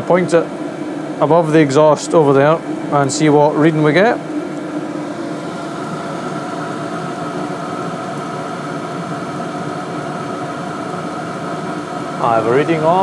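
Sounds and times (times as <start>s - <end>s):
heater fan whirring: 0.0s - 13.0s
thin steady whine: 0.0s - 13.0s.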